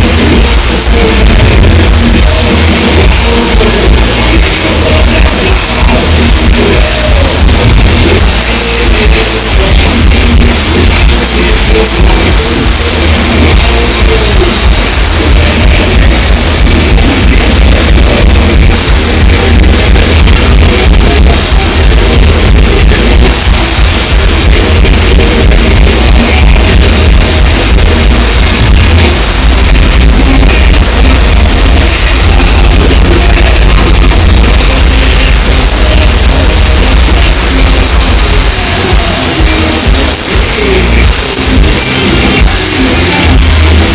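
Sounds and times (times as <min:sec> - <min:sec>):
thrash metal band playing: 0:00.0 - 0:43.9.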